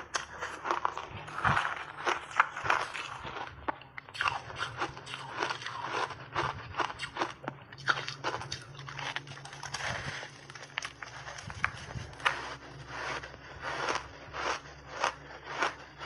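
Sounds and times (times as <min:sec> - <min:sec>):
ice chunks crunching when chewed: 0:00.0 - 0:16.0.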